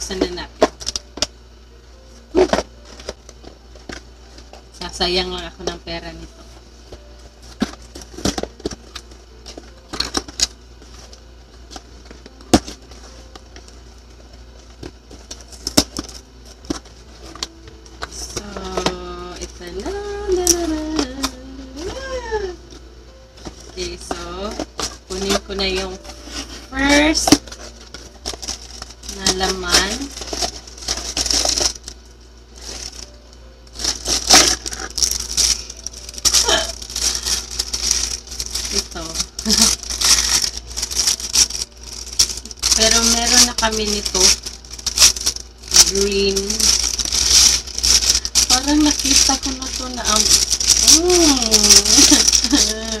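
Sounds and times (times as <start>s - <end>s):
plastic packaging crackling: 0.0s - 53.0s.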